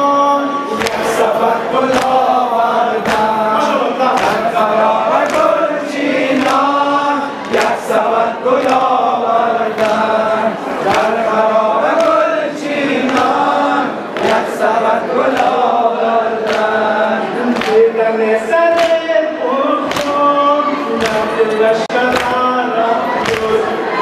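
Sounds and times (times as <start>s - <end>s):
men chanting in unison: 0.0s - 24.0s
rhythmic chest-beating strikes: 0.1s - 24.0s.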